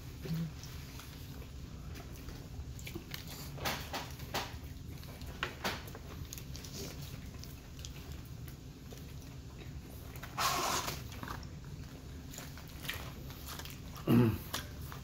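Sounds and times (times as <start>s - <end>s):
low steady hum: 0.0s - 15.0s
wet chewing smacks: 0.0s - 15.0s.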